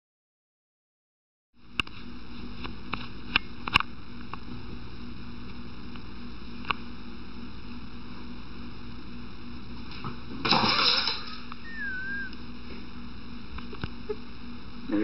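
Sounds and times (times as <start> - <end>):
steady hiss with low hum: 1.6 - 15.0.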